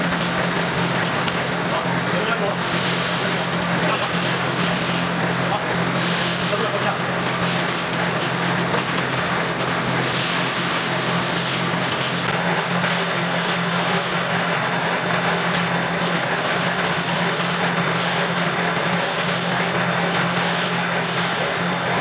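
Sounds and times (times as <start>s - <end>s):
broad even machine noise: 0.0s - 22.0s
electric motor hum: 0.0s - 22.0s.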